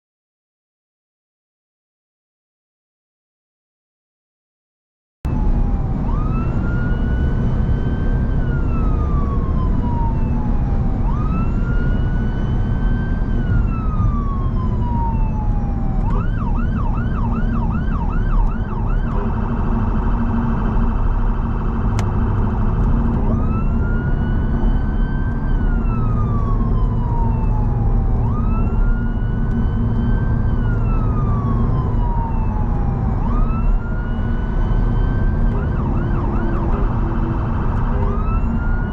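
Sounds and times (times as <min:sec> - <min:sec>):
electronic siren wailing: 0:05.3 - 0:38.9
engine and road noise: 0:05.3 - 0:38.9.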